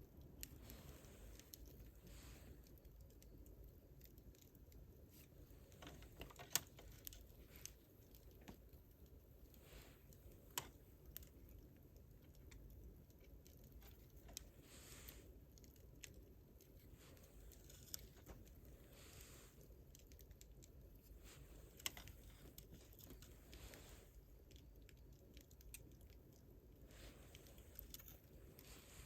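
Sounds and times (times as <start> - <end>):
campfire crackling: 0.0 - 29.0
soft hiss: 0.0 - 29.0.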